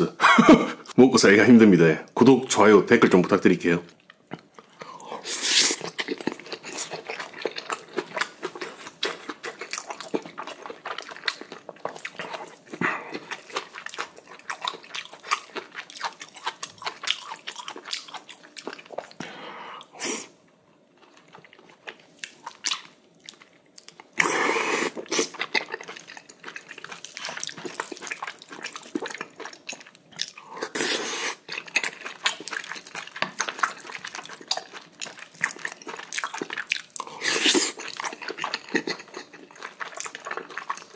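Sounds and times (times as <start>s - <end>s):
wet chewing and mouth smacking: 5.7s - 19.2s, 21.0s - 30.8s, 31.4s - 40.9s.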